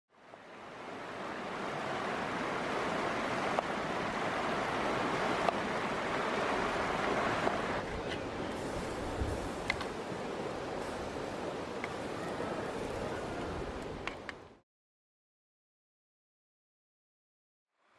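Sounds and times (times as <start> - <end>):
rushing river water: 0.1 - 14.6.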